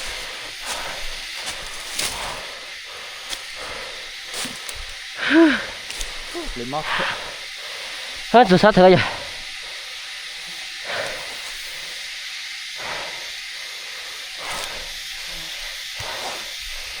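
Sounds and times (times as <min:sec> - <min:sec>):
high-pitched outdoor hiss: 0:00.0 - 0:17.0.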